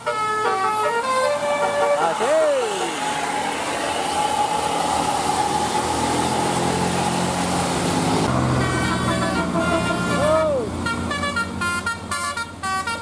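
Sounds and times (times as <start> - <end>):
bus engine running: 0.0 - 13.0
road and tyre noise: 0.0 - 13.0.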